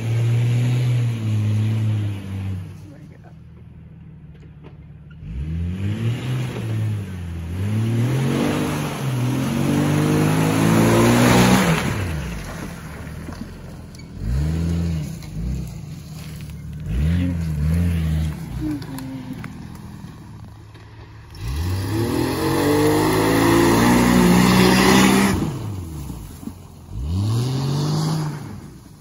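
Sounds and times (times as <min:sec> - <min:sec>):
car engine revving in mud: 0:00.0 - 0:02.9, 0:05.1 - 0:29.0.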